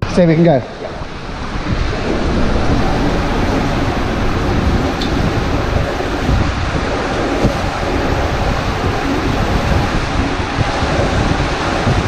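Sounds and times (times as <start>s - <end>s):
wind buffeting microphone: 0.0s - 12.0s
water rushing in slide tube: 0.7s - 12.0s.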